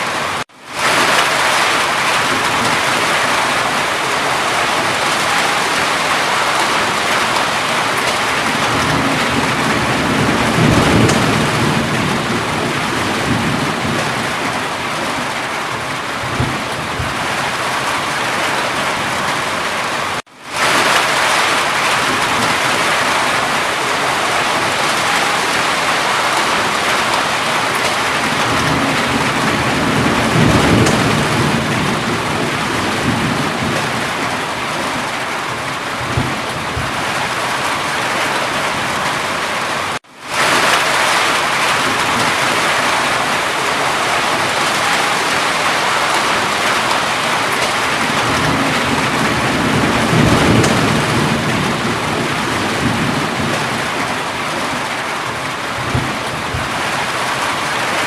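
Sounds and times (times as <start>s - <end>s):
heavy rainfall: 0.0s - 58.0s
distant thunder rumble: 0.1s - 19.7s, 20.5s - 39.4s, 40.3s - 58.0s.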